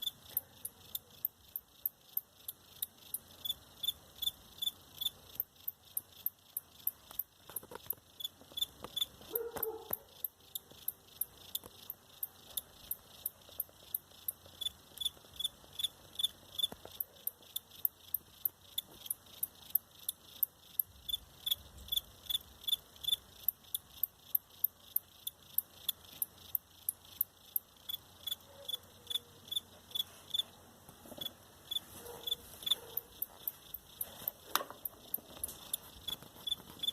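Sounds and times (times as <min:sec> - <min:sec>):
cricket chirping: 0:00.0 - 0:36.9.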